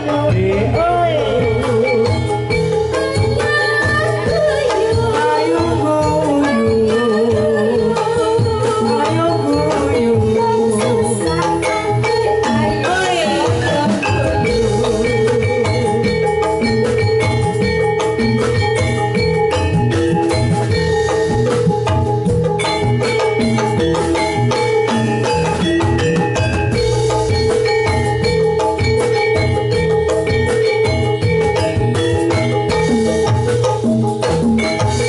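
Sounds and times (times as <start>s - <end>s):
drums playing: 0.0s - 35.0s
metallophones ringing: 0.0s - 35.0s.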